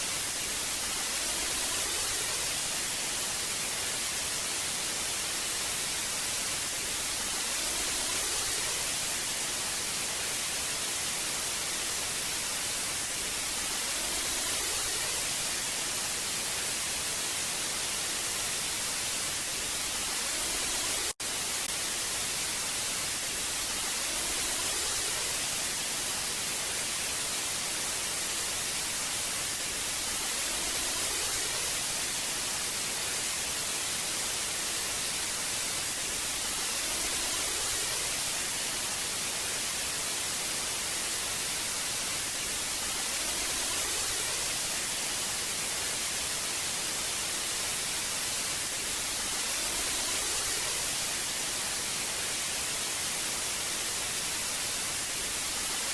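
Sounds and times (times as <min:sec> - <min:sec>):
television static hiss: 0:00.0 - 0:55.9.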